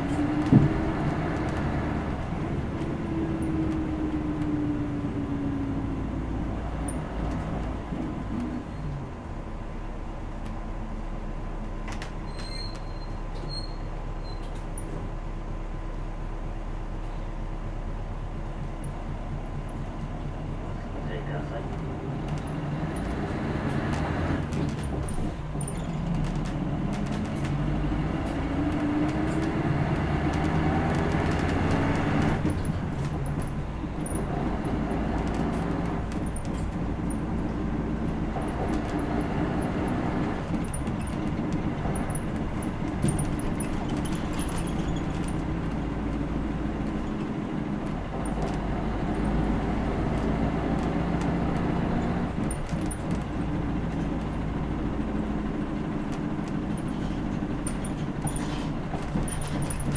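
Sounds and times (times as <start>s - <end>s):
bus diesel engine accelerating: 0.0s - 59.9s
road noise: 0.0s - 59.9s.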